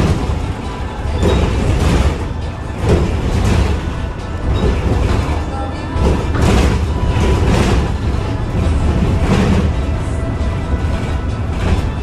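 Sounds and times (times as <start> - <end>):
bus road rumble: 0.0 - 12.0
music playing: 0.0 - 12.0
rattling and bumping: 0.0 - 12.0.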